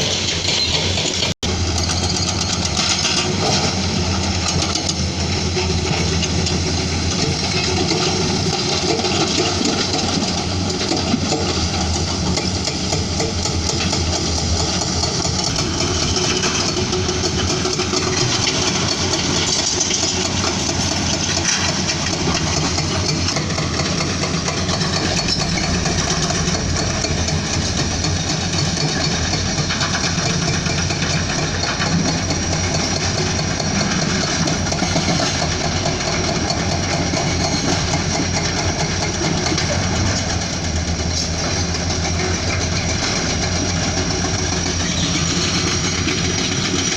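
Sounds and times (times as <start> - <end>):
excavator diesel engine rumbling: 0.0 - 46.9.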